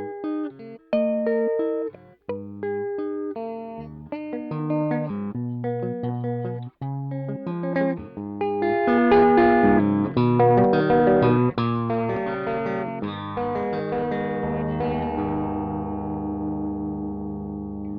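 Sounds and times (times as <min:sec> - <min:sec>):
electric guitar riff: 0:00.0 - 0:17.9.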